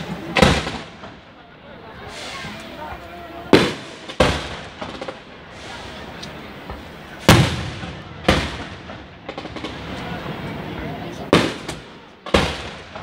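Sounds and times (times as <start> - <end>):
firework pops and crackle: 0.0 - 1.4, 2.1 - 10.3, 11.1 - 13.0.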